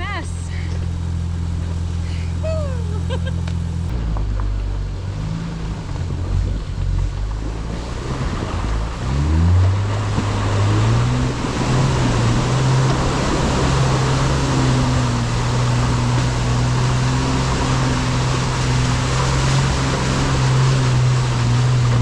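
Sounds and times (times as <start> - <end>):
off-road engine revving: 0.0 - 22.0
muddy water splashing from tyres: 3.3 - 22.0.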